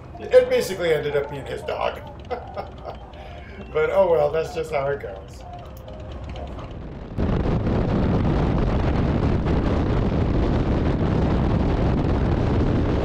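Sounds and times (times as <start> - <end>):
motorcycle engine running: 0.0 - 11.2
wind rushing over microphone: 0.0 - 13.0.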